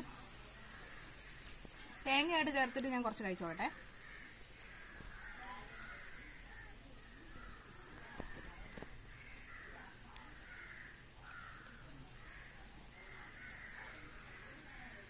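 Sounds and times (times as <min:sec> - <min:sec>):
crows cawing faintly: 0:00.0 - 0:15.0.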